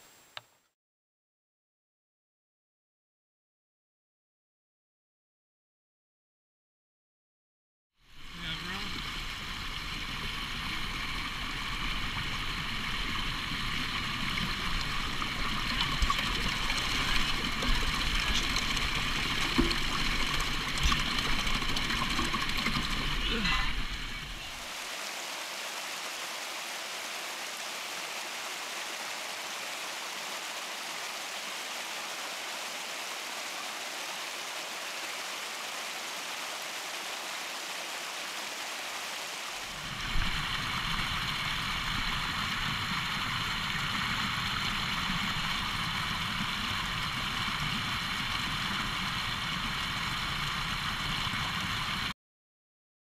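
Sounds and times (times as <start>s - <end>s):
creek water rushing over rocks: 8.1s - 52.1s.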